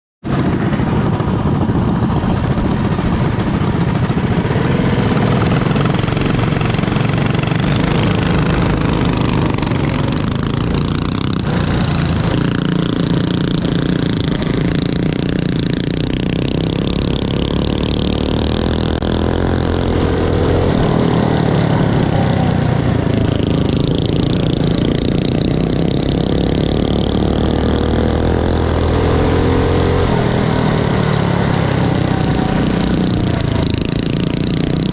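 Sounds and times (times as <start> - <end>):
mini bike engines revving: 0.3 - 34.9.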